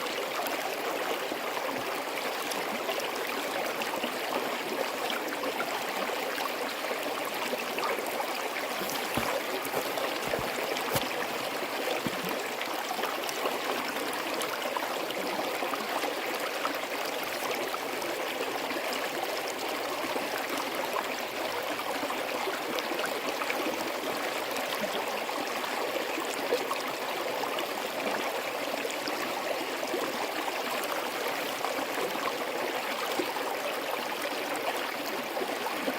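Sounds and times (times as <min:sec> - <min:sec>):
stream flowing over rocks: 0:00.0 - 0:35.9.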